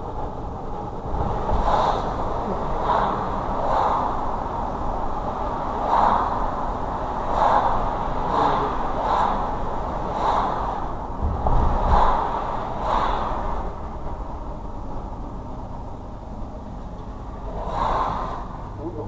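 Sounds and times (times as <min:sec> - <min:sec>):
soft whooshing pulse: 0:00.0 - 0:18.9
car road noise: 0:00.0 - 0:19.0.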